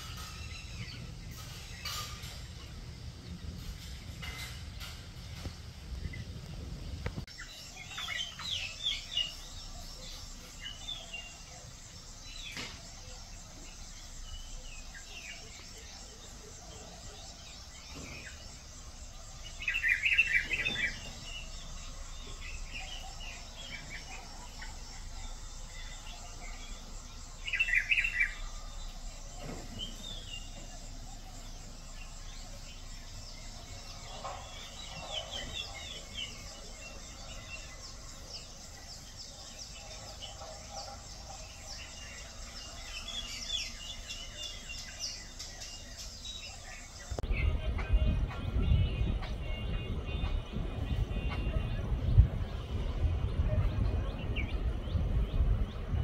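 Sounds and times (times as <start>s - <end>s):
birds chattering calls: 0.0s - 56.0s
birds chirping: 0.0s - 56.0s.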